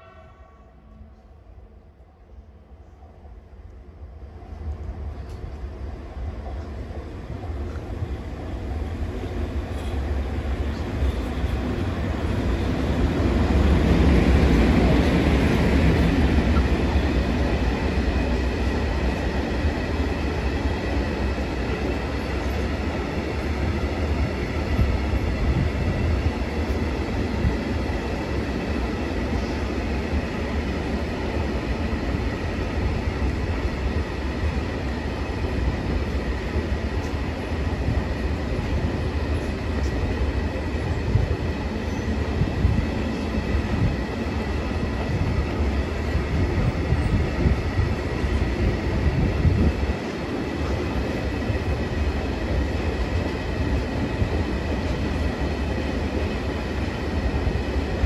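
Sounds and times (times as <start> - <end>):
electric locomotive passing: 0.0 - 58.0.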